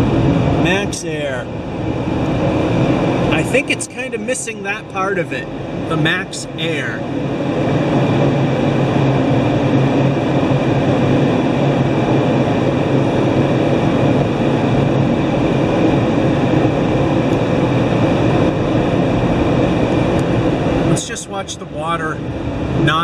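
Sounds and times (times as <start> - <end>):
dryer blowers rushing air: 0.0 - 23.0
low hum: 0.0 - 23.0.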